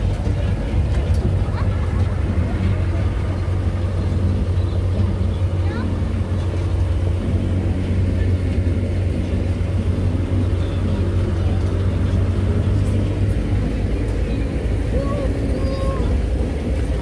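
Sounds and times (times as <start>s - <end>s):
faint voices: 0.0s - 17.0s
train rumbling in motion: 0.0s - 17.0s.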